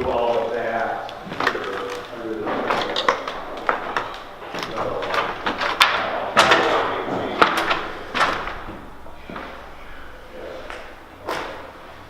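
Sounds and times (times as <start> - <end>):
debris banging and scraping: 0.0 - 12.0.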